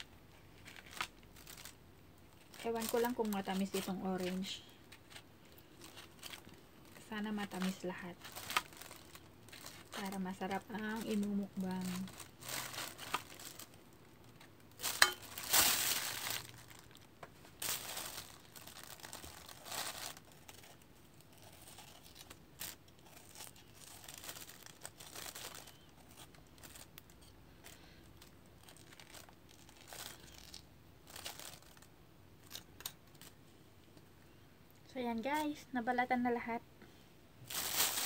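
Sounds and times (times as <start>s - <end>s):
plastic bag crinkling: 0.0s - 33.4s, 37.4s - 38.0s.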